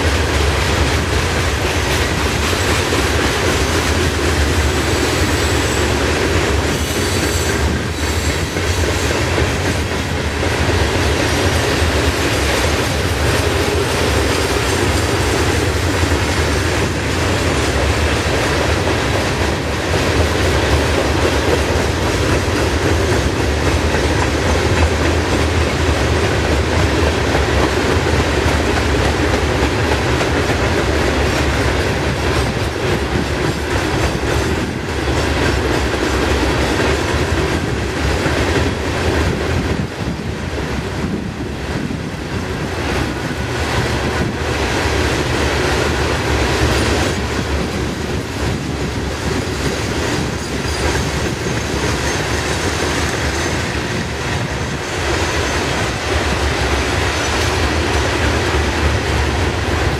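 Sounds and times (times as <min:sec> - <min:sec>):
steel wheels rumbling on rail: 0:00.0 - 0:59.9
wheels clacking over rail joints: 0:00.0 - 0:59.9.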